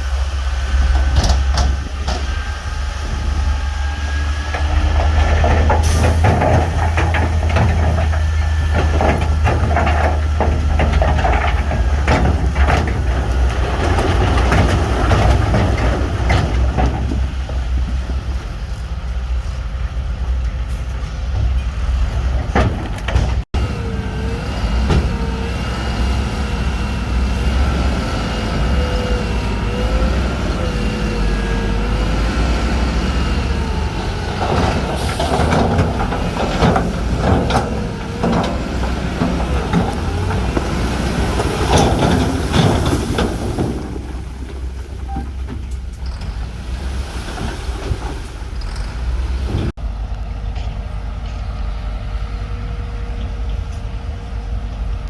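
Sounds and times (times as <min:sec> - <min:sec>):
heavy diesel machinery engine: 0:00.0 - 0:55.0
clanking and rattling: 0:00.7 - 0:18.9, 0:20.3 - 0:25.4, 0:27.4 - 0:49.8.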